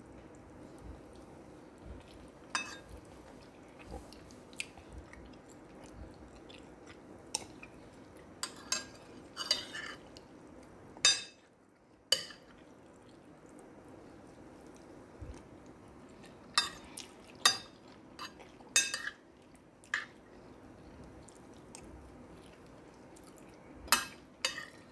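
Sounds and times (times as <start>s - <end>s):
chewing: 0.2s - 10.7s, 11.8s - 24.9s.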